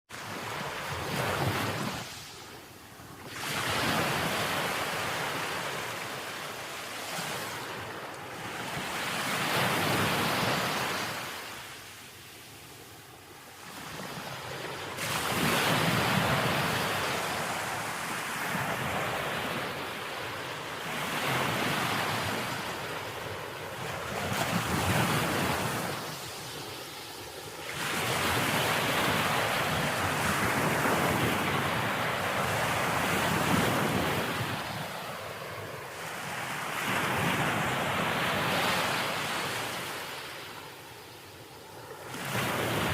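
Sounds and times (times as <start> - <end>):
ocean waves breaking: 0.1 - 42.9.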